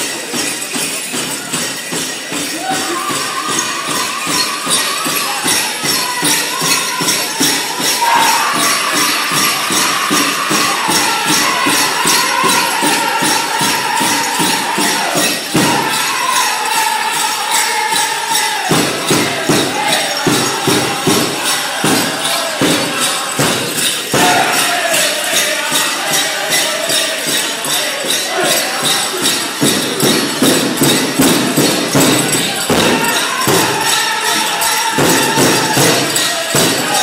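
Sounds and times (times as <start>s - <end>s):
high voices singing: 0.0s - 37.0s
jingling bells: 0.0s - 37.0s
big drum beating: 1.0s - 17.3s, 17.9s - 37.0s.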